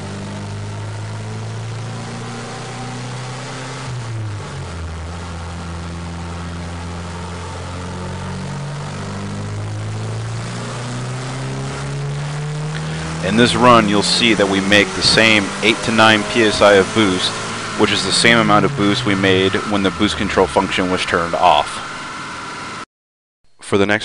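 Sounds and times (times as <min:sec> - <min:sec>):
turbocharged truck engine under load: 0:00.0 - 0:22.8.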